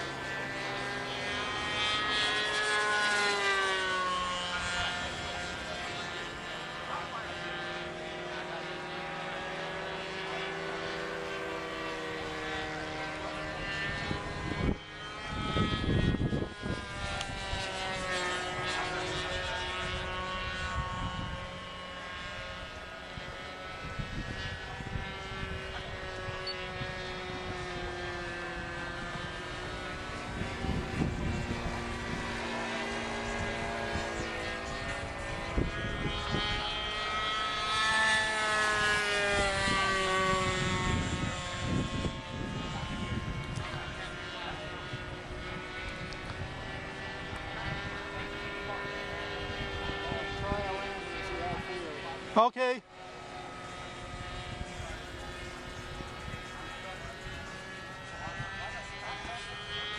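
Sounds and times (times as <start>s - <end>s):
model airplane engine buzzing: 0.0s - 59.9s.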